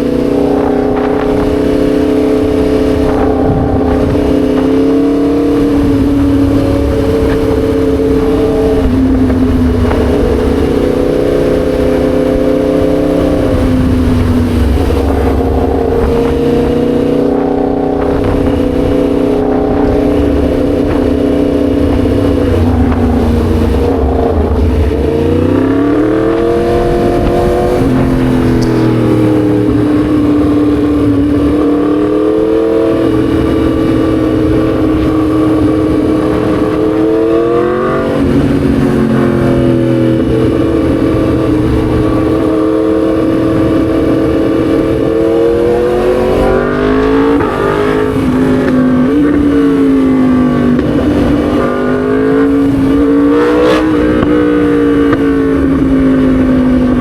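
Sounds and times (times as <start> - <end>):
motorcycle engine and exhaust: 0.0 - 57.0
wind rushing: 0.0 - 57.0.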